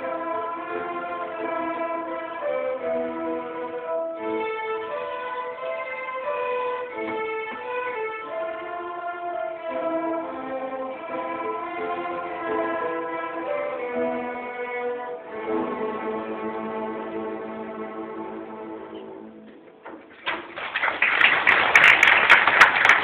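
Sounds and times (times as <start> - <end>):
string orchestra playing: 0.0 - 20.0.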